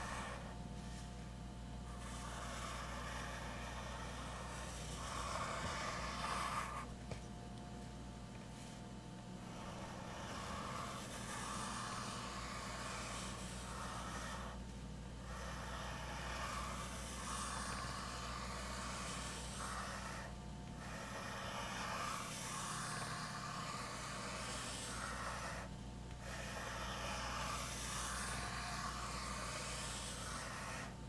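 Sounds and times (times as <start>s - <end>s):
pencil scratching on paper: 0.0s - 1.2s, 1.8s - 6.9s, 9.4s - 31.0s.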